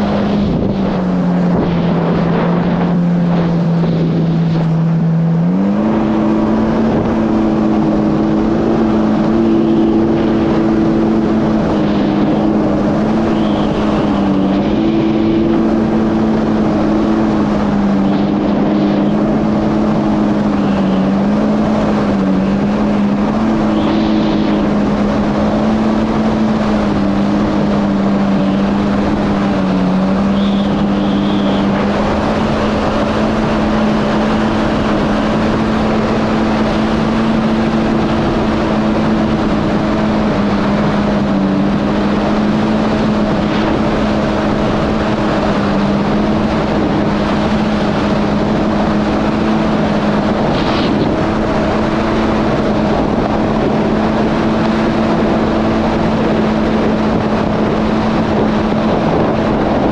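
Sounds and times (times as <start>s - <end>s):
jet ski engine running: 0.0s - 59.9s.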